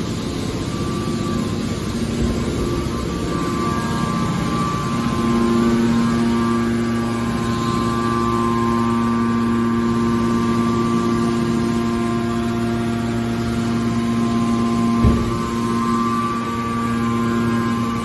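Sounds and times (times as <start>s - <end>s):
baler machine motor humming: 0.1s - 18.0s.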